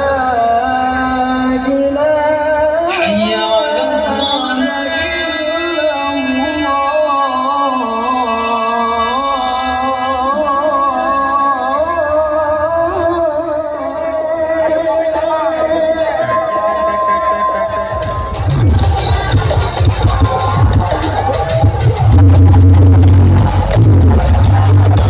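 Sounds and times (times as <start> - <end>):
loud music over sound system: 0.0 - 25.0.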